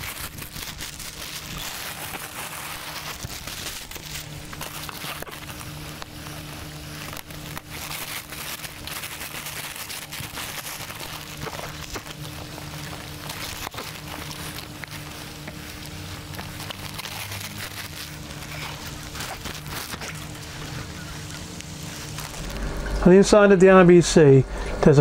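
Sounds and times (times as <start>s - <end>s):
plastic bag crinkling: 0.0s - 23.2s
low hum: 0.0s - 25.0s.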